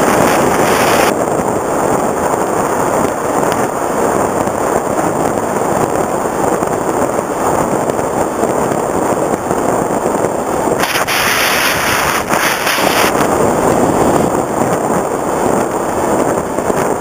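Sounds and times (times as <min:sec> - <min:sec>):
propeller noise: 0:00.0 - 0:17.0
wind rushing: 0:00.0 - 0:17.0.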